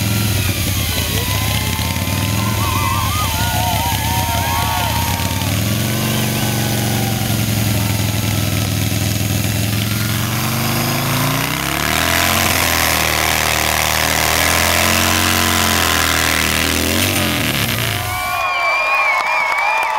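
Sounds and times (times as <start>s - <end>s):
chainsaw cutting hiss: 0.0s - 18.4s
chainsaw running at full throttle: 0.0s - 18.4s.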